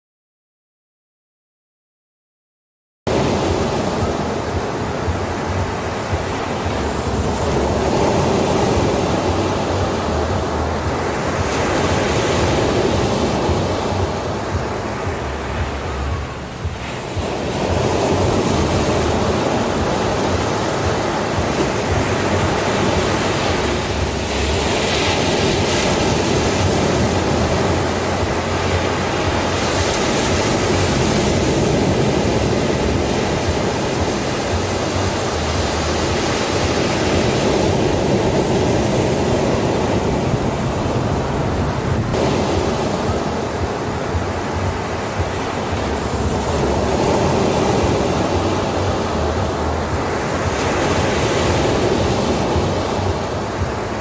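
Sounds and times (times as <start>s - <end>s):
ocean waves breaking on sand: 3.1s - 54.0s.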